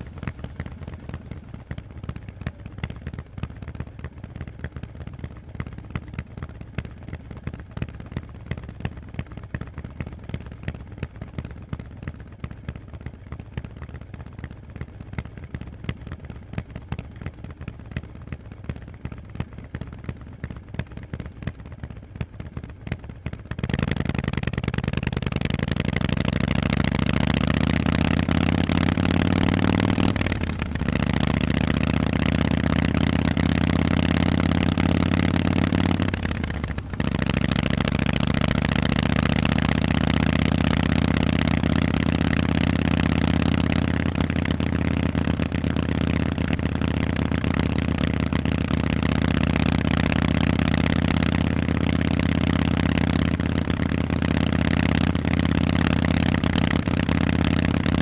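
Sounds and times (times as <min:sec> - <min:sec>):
motorcycle engine idling and accelerating: 0:00.0 - 0:58.0.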